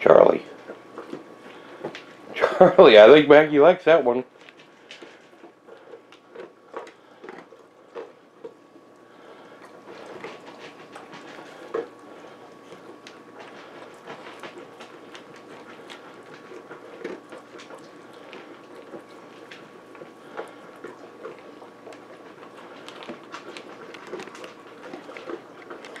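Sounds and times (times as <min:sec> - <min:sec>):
dog crunching dry kibble: 0:00.1 - 0:26.0.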